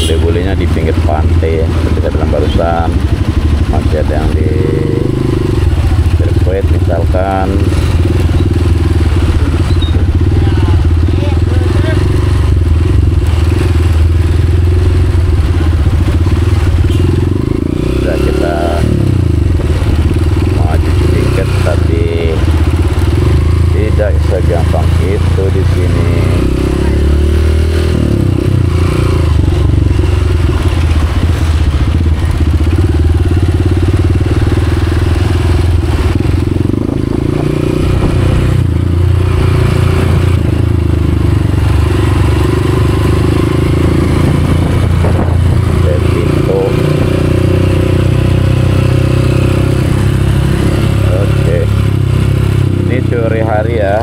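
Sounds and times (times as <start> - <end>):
motorcycle engine running: 0.0 - 54.0
street traffic: 0.0 - 54.0.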